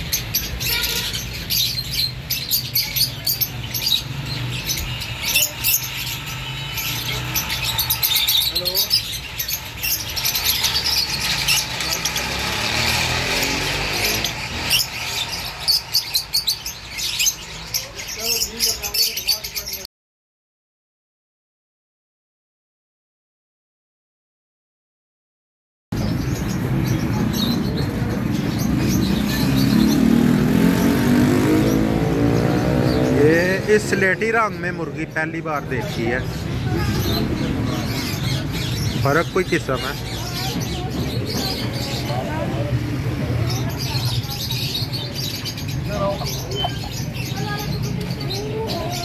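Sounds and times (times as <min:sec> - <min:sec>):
lovebirds chirping: 0:00.0 - 0:19.9, 0:26.0 - 0:49.0.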